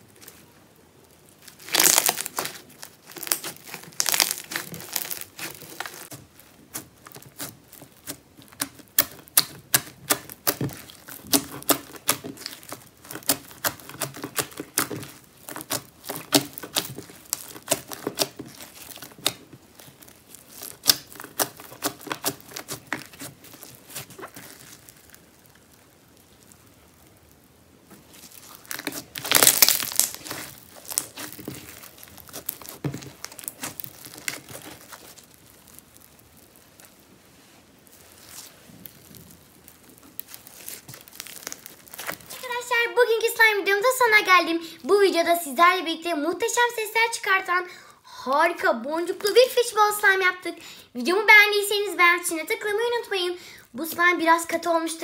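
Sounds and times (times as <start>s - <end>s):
crunchy slime crackling: 0.0s - 47.6s.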